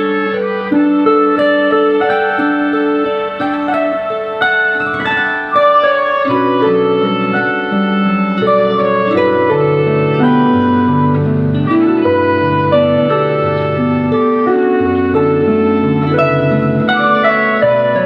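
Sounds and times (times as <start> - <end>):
instrumental music with held notes: 0.0 - 18.0.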